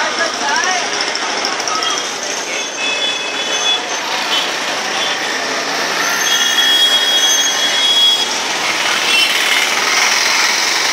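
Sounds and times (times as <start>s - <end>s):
vehicle engines in traffic: 0.0s - 10.9s.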